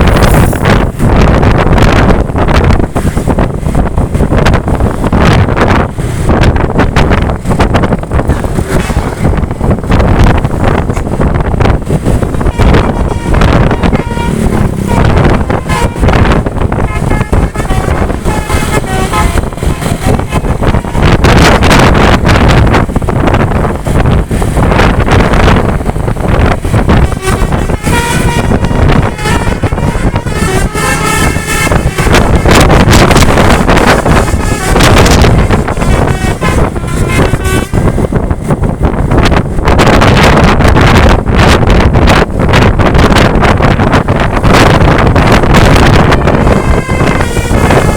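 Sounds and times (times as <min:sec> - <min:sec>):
road and engine rumble: 0:00.0 - 0:47.9
wind buffeting microphone: 0:00.0 - 0:47.9
bus horn playing a tune: 0:00.2 - 0:39.1, 0:40.2 - 0:47.9.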